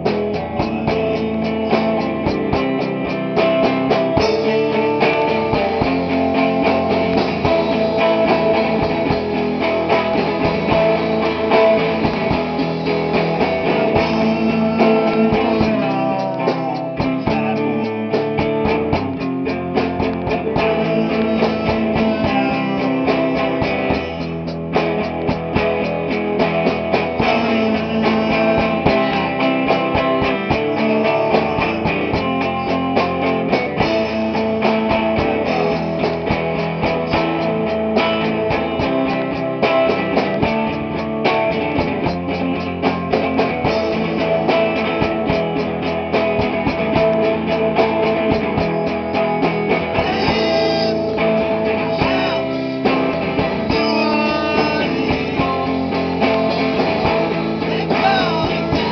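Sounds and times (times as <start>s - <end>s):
drum kit beat: 0.0s - 58.9s
strummed guitar: 0.0s - 58.9s.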